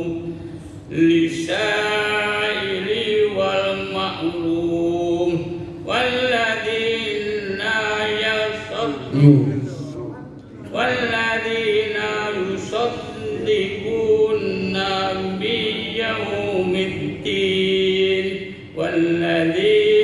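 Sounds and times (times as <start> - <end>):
person reciting melodically: 0.0 - 20.0.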